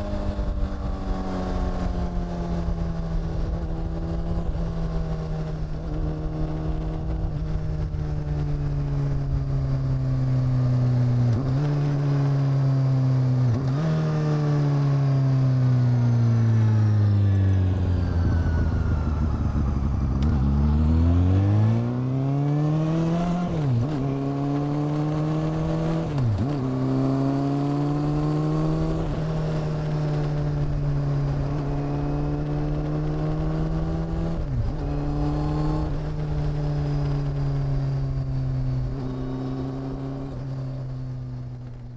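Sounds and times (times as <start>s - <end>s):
motorcycle engine and exhaust: 0.0s - 41.9s.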